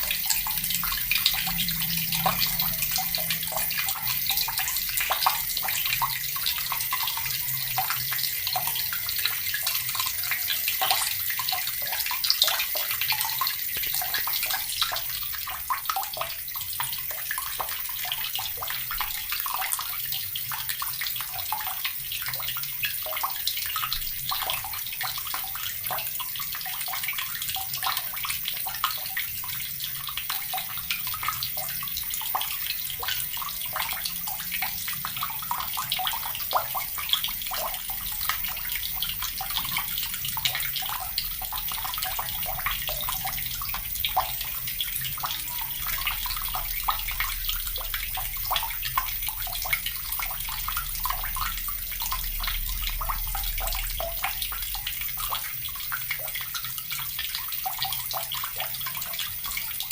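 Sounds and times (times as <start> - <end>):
tap water running and splashing: 0.0 - 59.9.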